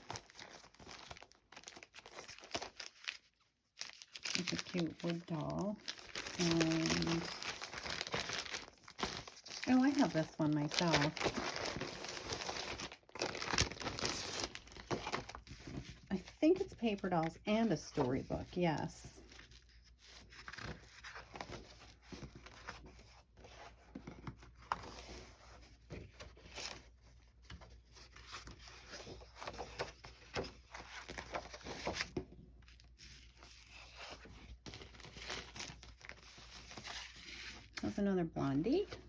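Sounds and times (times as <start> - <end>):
paper rustling and crinkling: 0.0 - 37.9.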